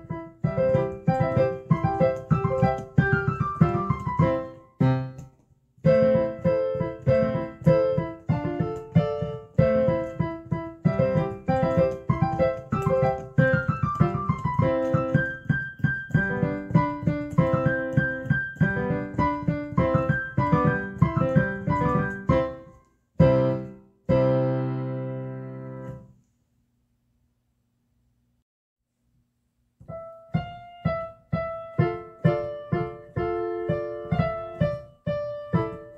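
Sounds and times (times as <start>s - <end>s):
piano music: 0.0s - 26.1s, 29.8s - 35.9s.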